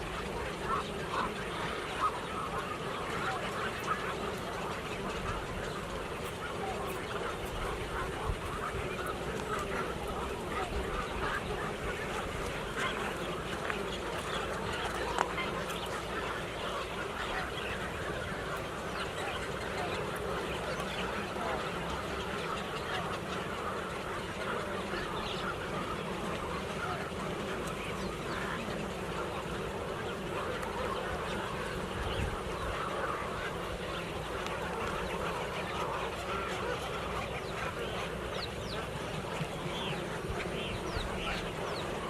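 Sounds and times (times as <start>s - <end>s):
flock of birds calling: 0.0s - 42.0s.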